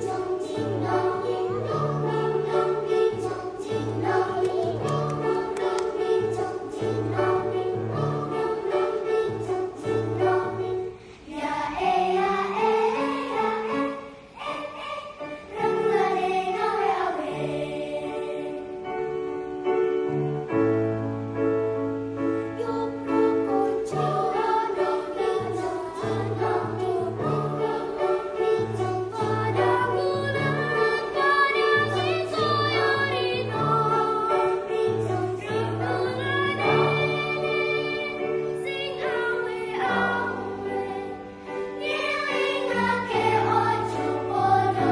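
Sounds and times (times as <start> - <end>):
choir singing: 0.0 - 19.1, 22.5 - 44.9.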